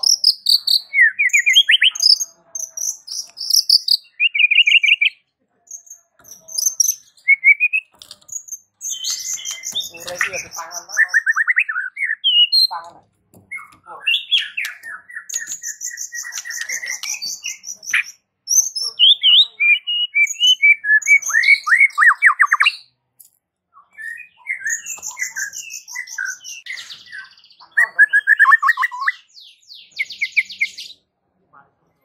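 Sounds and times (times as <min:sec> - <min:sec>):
bird singing whistled phrases: 0:00.0 - 0:12.7, 0:13.5 - 0:22.9, 0:23.7 - 0:31.0.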